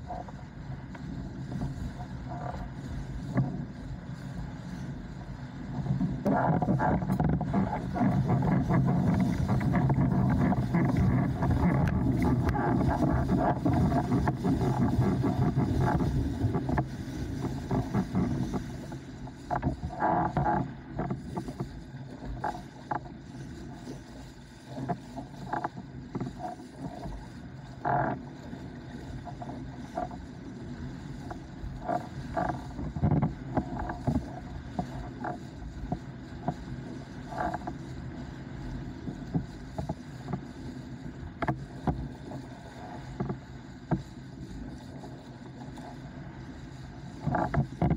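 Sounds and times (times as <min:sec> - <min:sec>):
rush of wind and water: 0:00.0 - 0:47.9.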